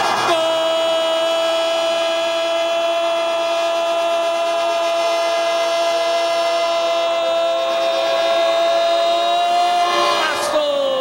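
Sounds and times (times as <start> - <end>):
commentator's drawn-out goal cry: 0.1 - 11.0.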